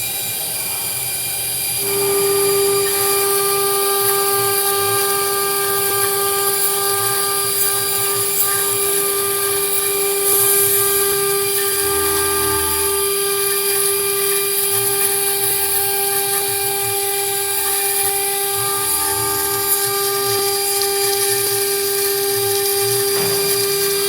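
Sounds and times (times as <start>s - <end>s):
cutting hiss: 0.0s - 24.0s
router spindle high whine: 0.0s - 24.0s.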